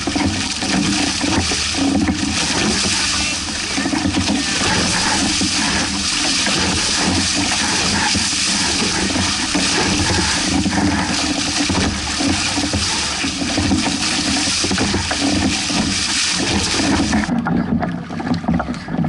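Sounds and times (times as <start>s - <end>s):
water rushing along boat hulls: 0.0s - 19.0s.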